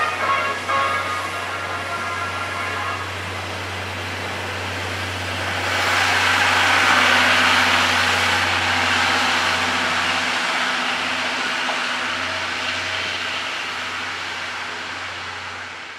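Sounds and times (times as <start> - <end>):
train wheels on rails: 0.0 - 15.9.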